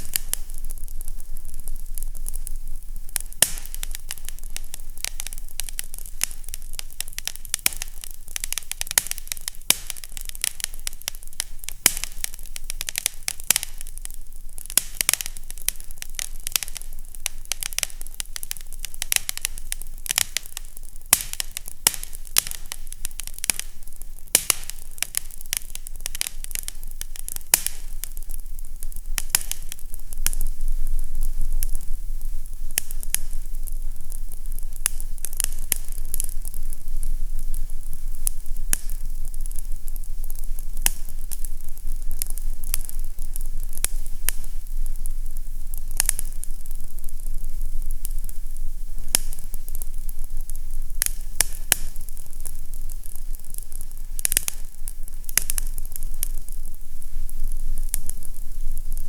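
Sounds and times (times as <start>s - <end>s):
fire crackling and popping: 0.0s - 59.0s
low steady hum: 0.0s - 59.0s.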